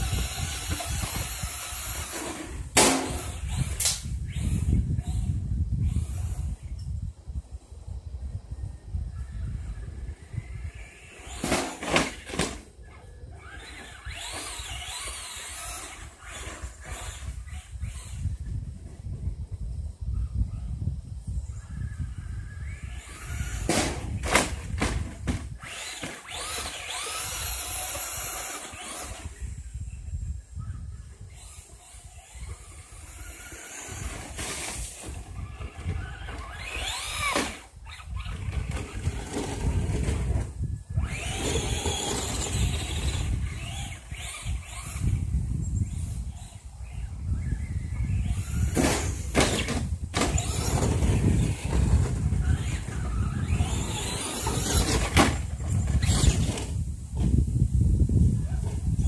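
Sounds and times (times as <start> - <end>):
rc truck motor whining: 0.0 - 6.9, 7.8 - 19.4, 20.2 - 57.5.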